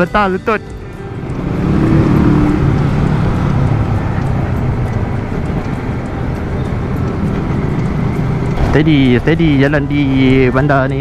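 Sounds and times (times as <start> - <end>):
motorcycle engine running: 0.7 - 10.6.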